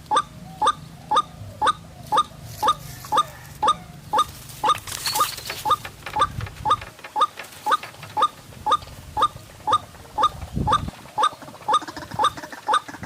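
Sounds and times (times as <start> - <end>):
waterhen call: 0.0 - 13.0.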